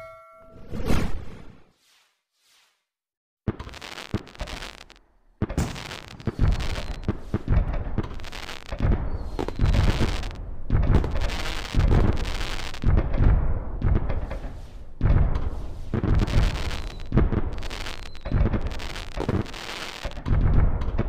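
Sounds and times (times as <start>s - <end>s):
fireworks bangs and booms: 3.5s - 21.0s.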